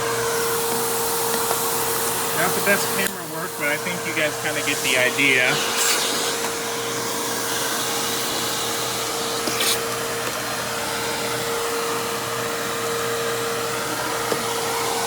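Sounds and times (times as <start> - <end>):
vacuum cleaner motor running: 0.0 - 15.0.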